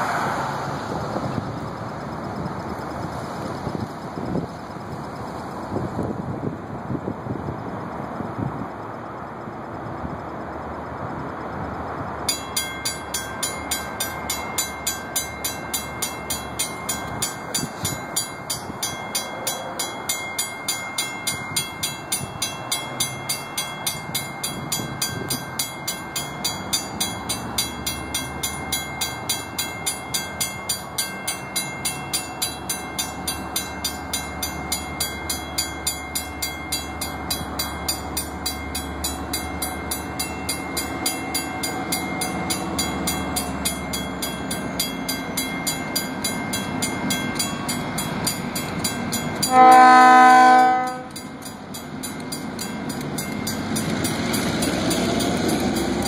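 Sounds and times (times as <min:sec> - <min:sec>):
crossing bell ringing: 0:00.0 - 0:06.5, 0:07.9 - 0:56.0
diesel locomotive engine: 0:00.0 - 0:56.0.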